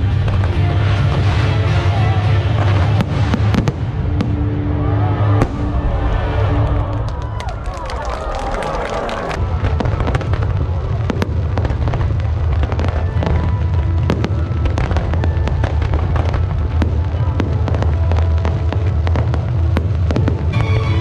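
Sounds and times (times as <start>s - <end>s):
continuous low rumble: 0.0s - 21.0s
fireworks bangs and crackles: 0.0s - 21.0s.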